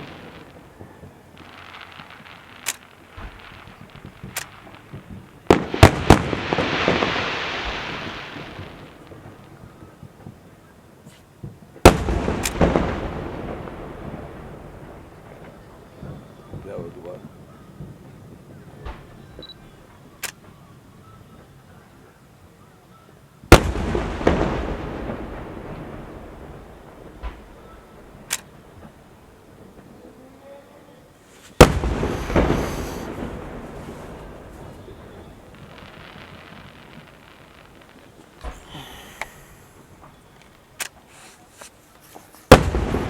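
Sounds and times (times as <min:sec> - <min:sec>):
firework bangs: 0:00.0 - 0:22.2, 0:23.4 - 0:30.4, 0:31.1 - 0:43.0
firework crackling: 0:00.0 - 0:22.3, 0:23.2 - 0:30.4, 0:31.0 - 0:43.0.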